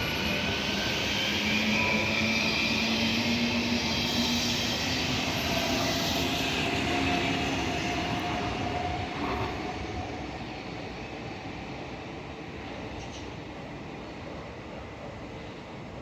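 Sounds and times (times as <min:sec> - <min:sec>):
train rolling with faint whine: 0:00.0 - 0:16.0.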